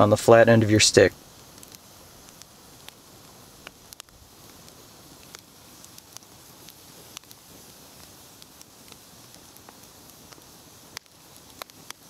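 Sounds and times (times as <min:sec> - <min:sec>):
wood fire crackling: 0:00.0 - 0:12.0
sharp pops and snaps: 0:01.1 - 0:12.0.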